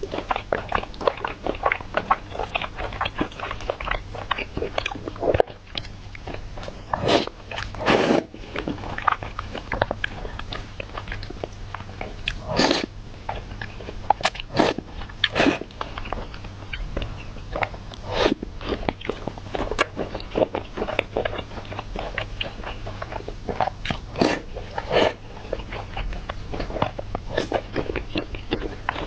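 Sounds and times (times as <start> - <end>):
wet chewing mouth sounds: 0.0 - 29.0.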